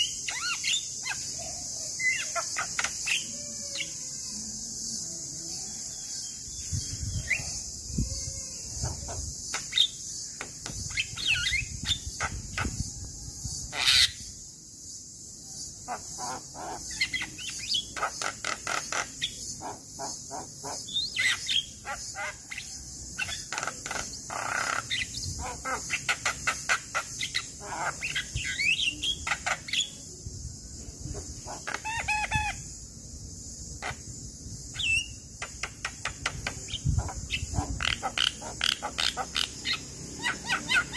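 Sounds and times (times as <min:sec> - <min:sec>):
insects droning: 0:00.0 - 0:40.9
myna bird singing: 0:00.0 - 0:40.9.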